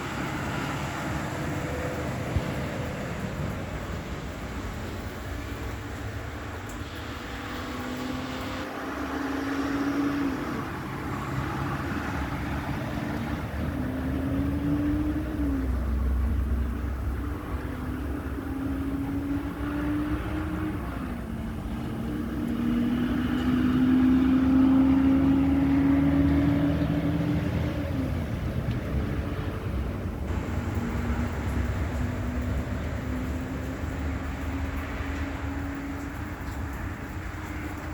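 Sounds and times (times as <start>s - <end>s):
tyres hissing on wet pavement: 0.0s - 37.9s
engine accelerating through gears: 6.8s - 37.9s.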